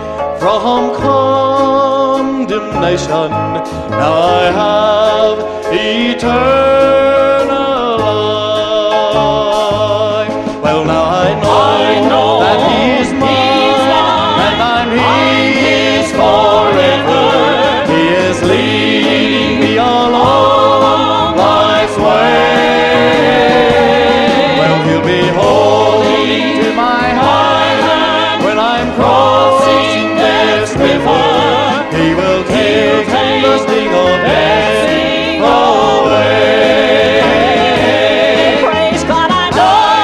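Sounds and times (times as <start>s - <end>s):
gospel group singing in harmony: 0.0s - 40.0s
instrumental accompaniment: 0.0s - 40.0s.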